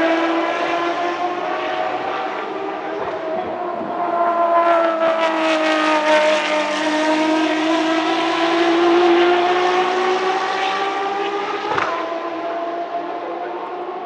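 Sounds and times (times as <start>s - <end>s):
racing car engine accelerating: 0.0s - 14.0s.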